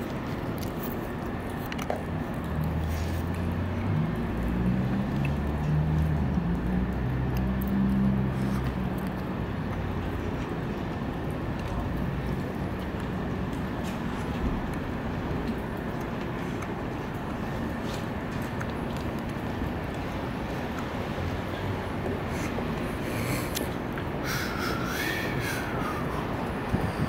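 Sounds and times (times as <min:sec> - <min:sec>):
low engine-like drone: 0:00.0 - 0:27.0
urban night background hum: 0:00.0 - 0:27.0.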